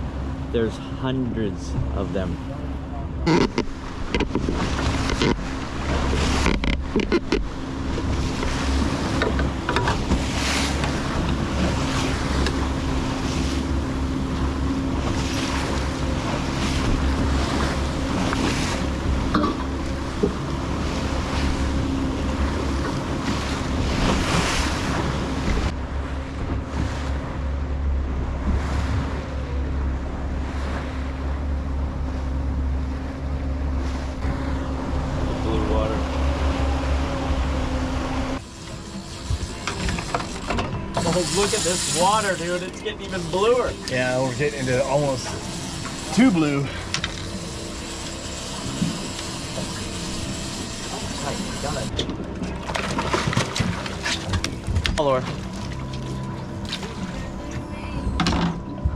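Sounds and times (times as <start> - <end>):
boat engine humming: 0.0 - 58.9
water splashing past hull: 0.0 - 58.9.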